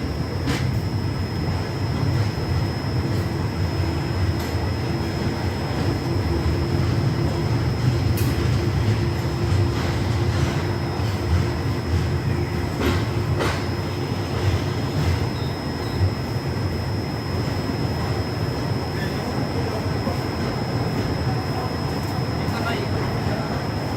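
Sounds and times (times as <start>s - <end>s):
faint steady whine: 0.0s - 23.9s
train wheels rumbling on rails: 0.0s - 23.9s.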